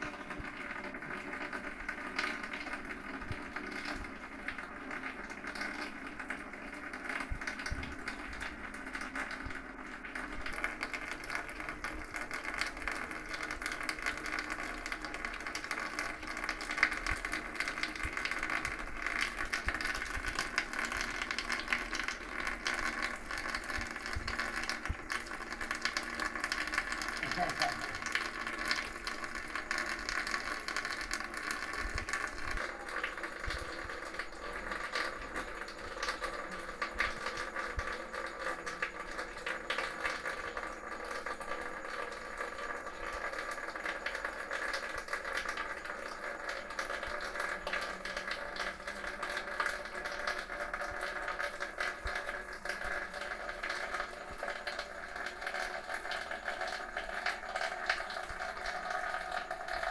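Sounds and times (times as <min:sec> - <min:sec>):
tap water running: 0:00.0 - 0:59.9.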